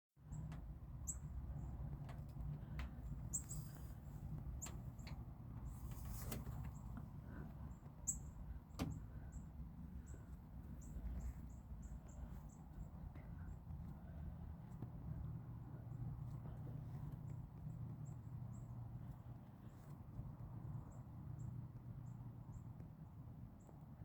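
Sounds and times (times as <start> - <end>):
songbirds chipping: 0.2 - 24.0
steady low rumble: 0.2 - 24.0.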